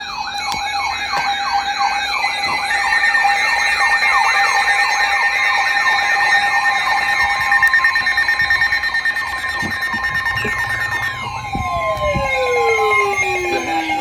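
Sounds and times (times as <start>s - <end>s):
electronic siren yelping: 0.0s - 14.0s
steady alarm tones: 0.0s - 14.0s.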